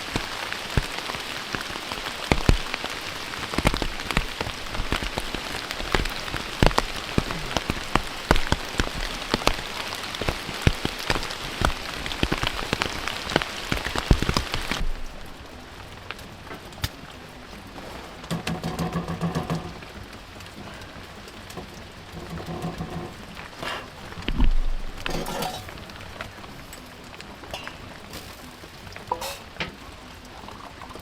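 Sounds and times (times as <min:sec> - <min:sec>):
dull steady noise: 0:00.0 - 0:31.0
rain drops pattering: 0:00.0 - 0:31.0.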